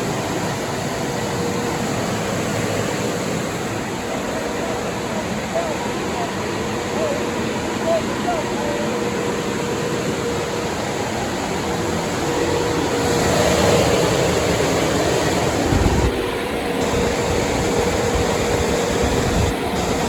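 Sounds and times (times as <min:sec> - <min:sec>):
diesel engine running: 0:00.0 - 0:20.0
steady whine: 0:00.0 - 0:20.0.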